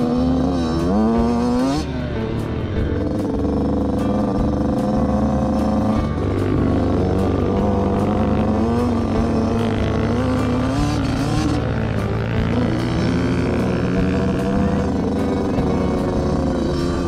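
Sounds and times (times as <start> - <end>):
two-stroke dirt bike engine: 0.0 - 17.0.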